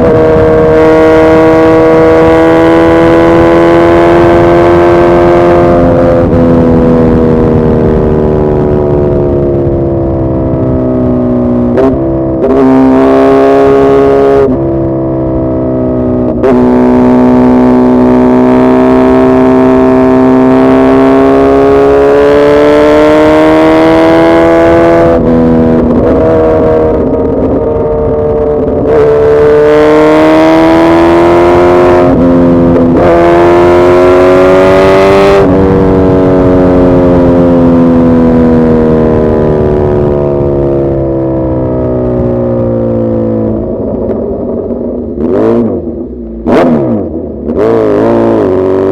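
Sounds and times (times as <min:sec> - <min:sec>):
motorcycle engine running hard: 0:00.0 - 0:48.9.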